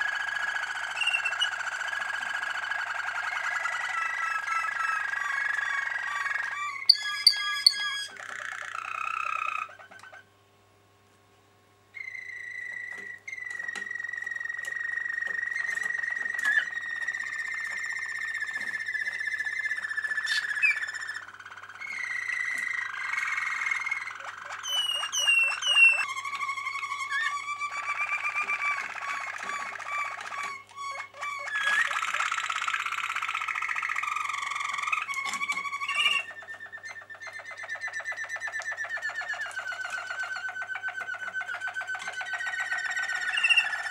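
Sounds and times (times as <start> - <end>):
canaries singing: 0.0 - 10.3, 11.9 - 43.9.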